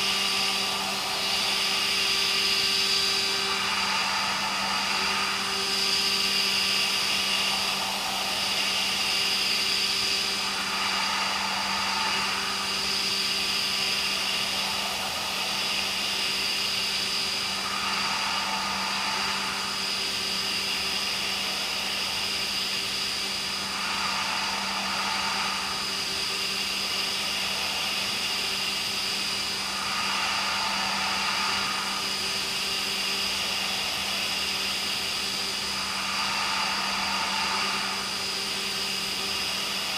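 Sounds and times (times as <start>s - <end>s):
high cutting hiss: 0.0s - 39.9s
milling machine humming: 0.0s - 39.9s.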